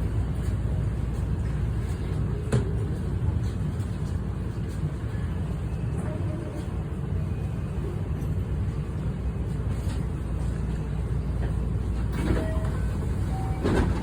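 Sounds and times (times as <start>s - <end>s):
electric train low rumble: 0.0s - 14.0s.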